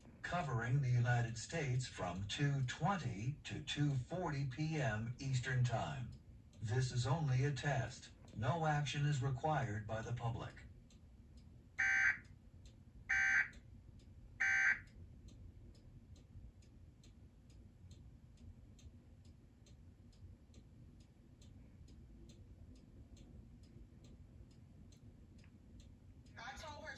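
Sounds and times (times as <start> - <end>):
faint steady ticking: 0.0 - 26.9.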